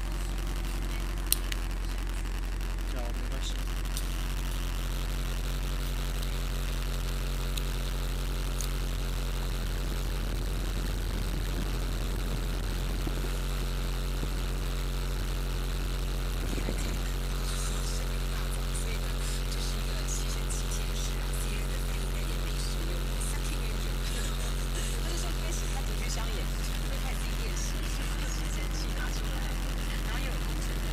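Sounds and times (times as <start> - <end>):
car engine idling: 0.0 - 30.9.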